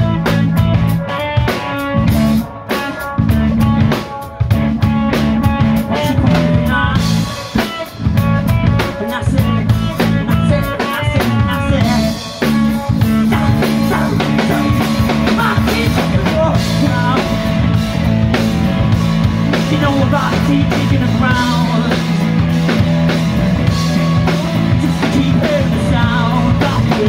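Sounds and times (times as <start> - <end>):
drum kit: 0.0 - 27.0
electric bass: 0.0 - 27.0
electric guitar: 0.0 - 27.0.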